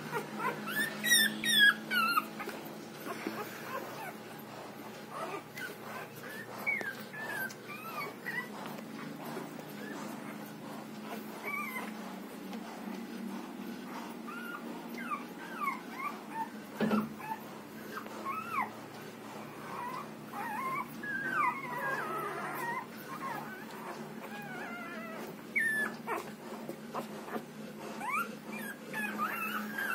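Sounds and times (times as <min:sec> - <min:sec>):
puppies squeaking and whimpering: 0:00.0 - 0:12.1, 0:14.2 - 0:29.9.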